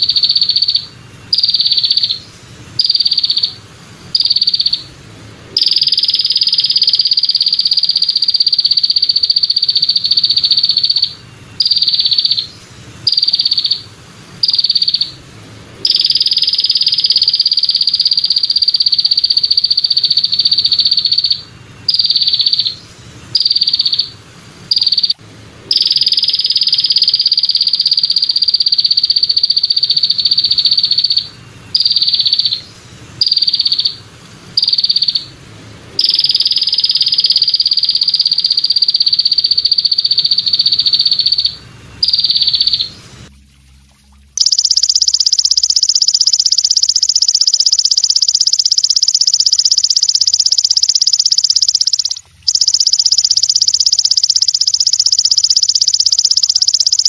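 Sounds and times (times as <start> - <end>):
katydid buzzing trill and chirps: 0.0 - 4.9, 5.6 - 15.2, 15.8 - 22.8, 23.4 - 34.0, 34.6 - 35.4, 36.0 - 43.0, 44.4 - 57.0.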